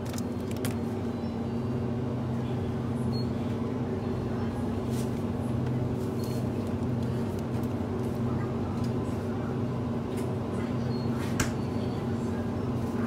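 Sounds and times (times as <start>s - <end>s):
refrigerator hum: 0.0s - 13.0s.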